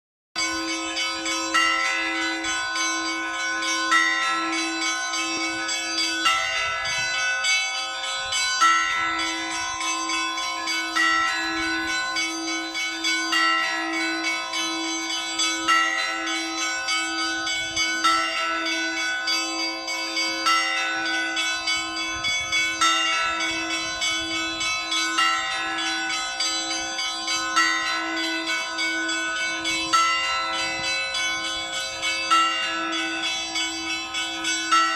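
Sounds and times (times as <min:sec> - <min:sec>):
church bells ringing a peal: 0:00.4 - 0:34.9.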